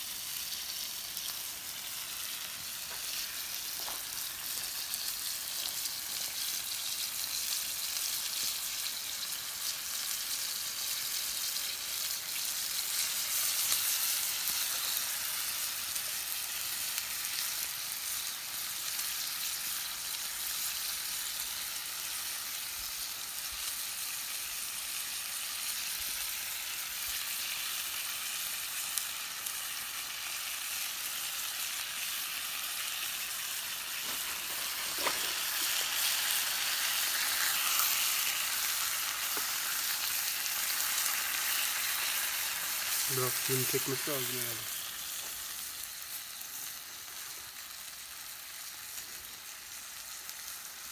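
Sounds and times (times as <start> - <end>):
steaks sizzling in a pan: 0.0 - 50.9.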